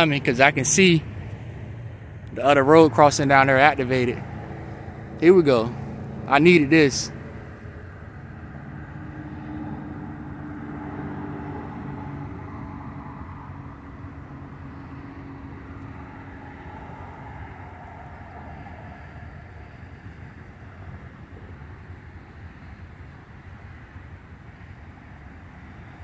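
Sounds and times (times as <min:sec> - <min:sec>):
low hum: 0:00.0 - 0:25.4
vehicle rumble: 0:00.0 - 0:26.0.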